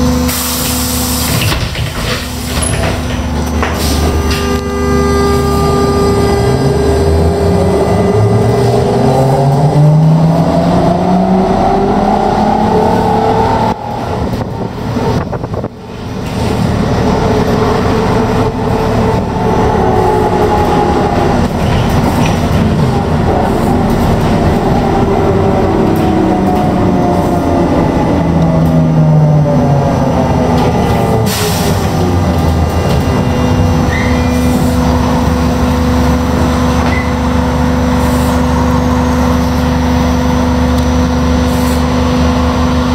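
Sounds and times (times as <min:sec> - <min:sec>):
low road and body rumble: 0:00.0 - 0:42.9.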